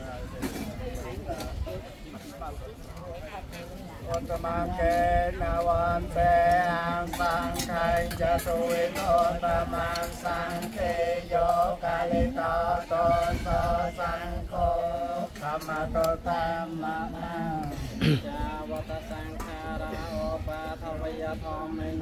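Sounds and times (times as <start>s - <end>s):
man chanting: 4.1s - 22.0s.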